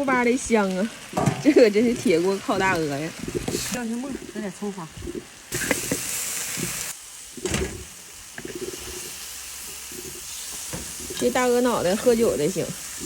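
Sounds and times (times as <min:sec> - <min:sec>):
sauce sizzling in a wok: 0:00.0 - 0:13.0.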